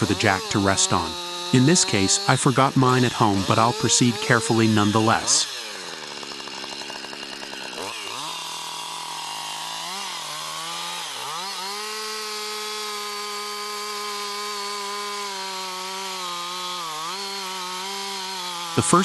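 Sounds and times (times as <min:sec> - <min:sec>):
chainsaw running at high revs: 0:00.0 - 0:19.0.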